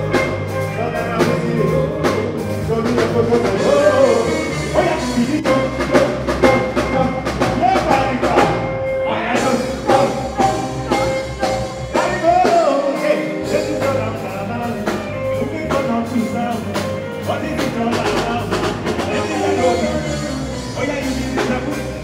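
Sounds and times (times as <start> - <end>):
live band playing: 0.0 - 22.0
steady drum beat: 0.0 - 22.0
man singing into microphone: 0.6 - 22.0.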